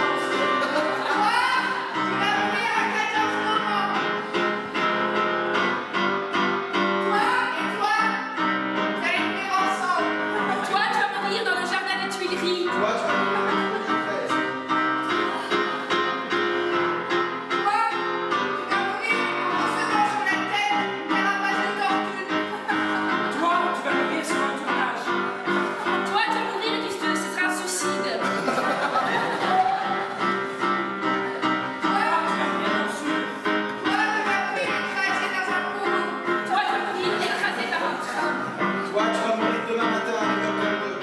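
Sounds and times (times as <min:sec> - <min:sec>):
electric keyboard chords: 0:00.0 - 0:41.0.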